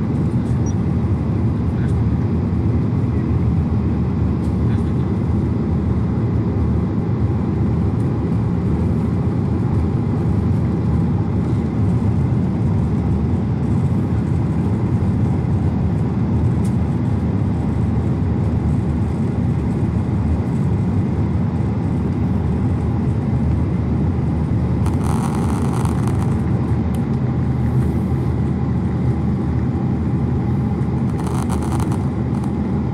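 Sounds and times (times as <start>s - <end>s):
jet cabin low rumble: 0.0s - 32.9s.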